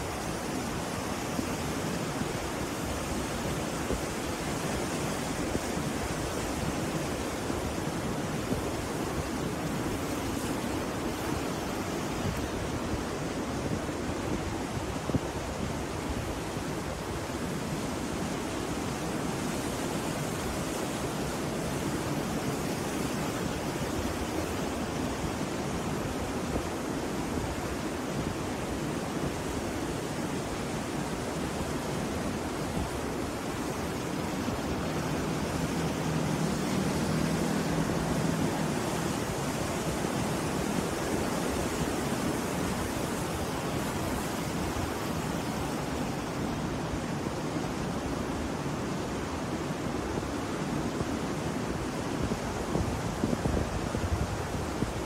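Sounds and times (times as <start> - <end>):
sea surf breaking on beach: 0.0 - 55.0.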